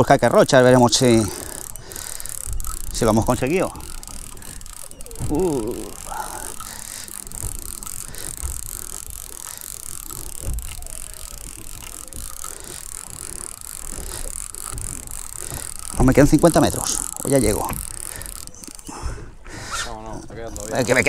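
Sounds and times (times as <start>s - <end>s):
fishing reel winding: 0.0s - 21.0s.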